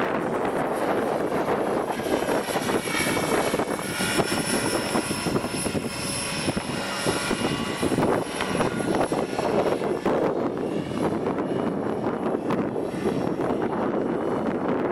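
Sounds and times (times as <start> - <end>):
model helicopter rotor whine: 0.0 - 14.9
wind buffeting microphone: 0.0 - 14.9.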